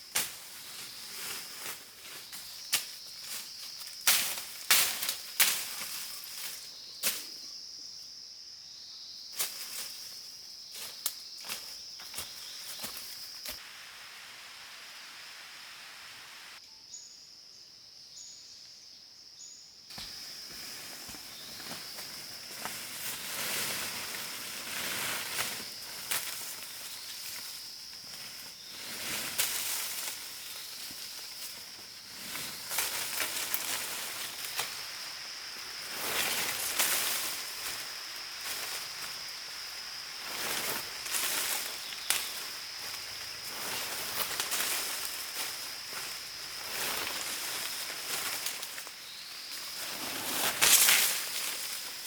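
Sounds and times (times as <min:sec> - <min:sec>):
rustling of leaves: 0:00.0 - 0:07.4, 0:09.3 - 0:16.6, 0:19.9 - 0:52.0
high insect drone: 0:00.0 - 0:52.0.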